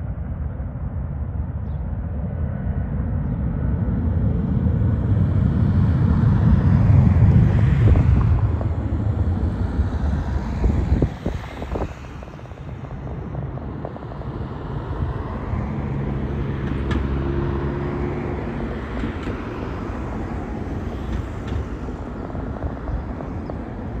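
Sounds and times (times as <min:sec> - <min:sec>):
low rumble of distant engines: 0:00.0 - 0:24.0
engine hum: 0:00.1 - 0:24.0.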